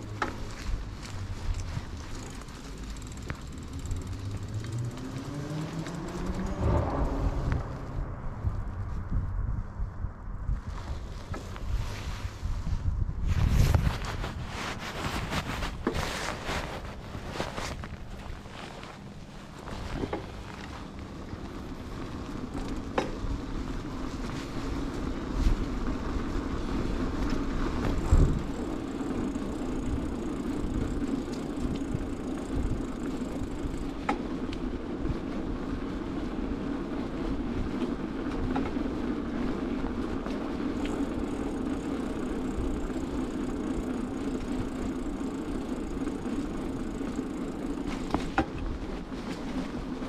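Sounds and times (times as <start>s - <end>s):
bicycle knocking over bumps: 0.0s - 7.1s, 13.8s - 26.1s, 26.9s - 36.1s, 37.4s - 50.0s
bicycle frame rattling: 0.0s - 8.9s, 10.5s - 50.0s
bicycle tyres rolling on pavement: 0.0s - 50.0s
wind rumbling on microphone: 0.0s - 50.0s.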